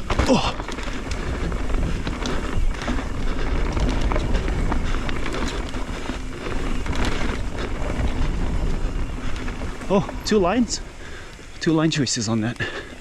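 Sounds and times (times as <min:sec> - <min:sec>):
bike knocks and rattles: 0:00.0 - 0:11.5
wind on microphone: 0:00.0 - 0:11.6
bike tyre noise on rocky trail: 0:00.0 - 0:13.0.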